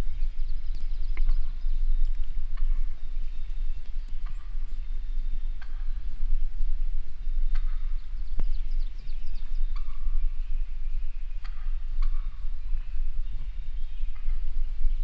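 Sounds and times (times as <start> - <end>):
bird calls: 0.0 - 15.0
low rumble: 0.0 - 15.0.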